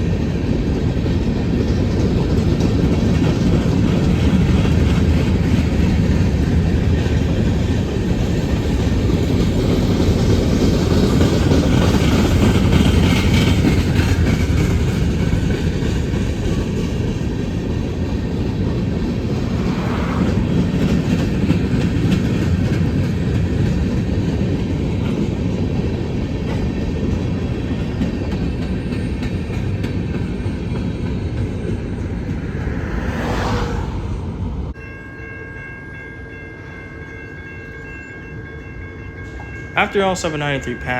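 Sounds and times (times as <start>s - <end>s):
wheels clickety-clack: 0.0s - 34.2s
freight train rolling past: 0.0s - 40.9s.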